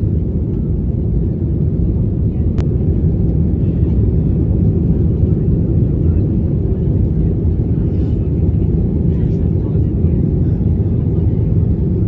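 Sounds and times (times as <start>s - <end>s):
airliner engine rumble in cabin: 0.0s - 12.0s.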